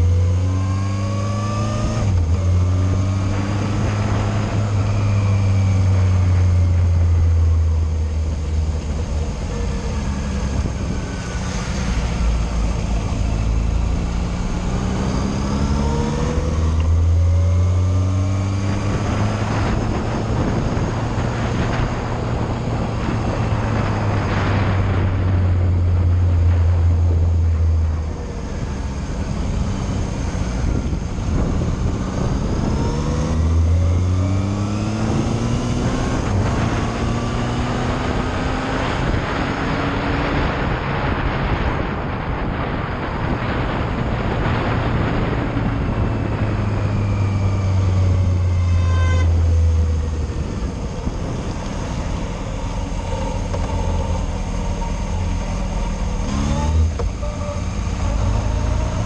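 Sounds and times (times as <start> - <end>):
motorcycle engine revving through gears: 0.0 - 59.0
wind rushing: 1.6 - 59.0.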